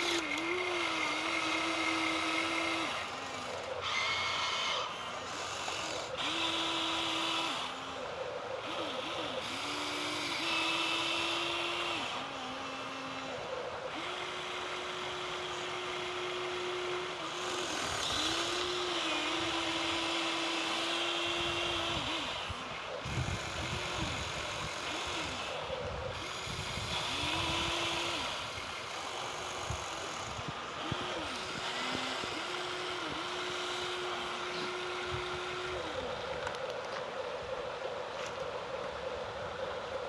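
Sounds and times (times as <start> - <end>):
small electric motors whining: 0.0 - 40.0.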